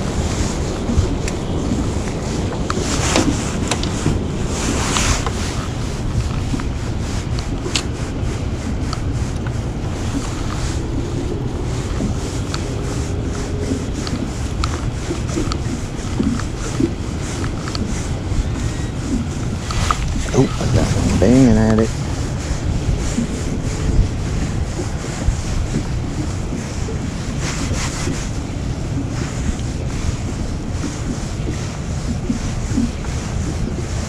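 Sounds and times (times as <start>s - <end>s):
water lapping against boat: 0.0s - 34.0s
wind buffeting microphone: 0.0s - 34.0s.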